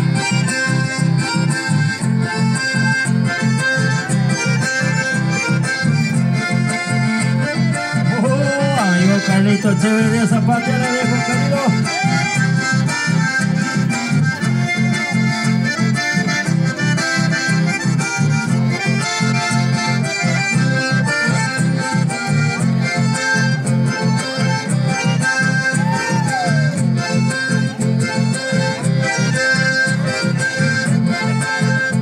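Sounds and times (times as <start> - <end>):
accordion: 0.0 - 32.0.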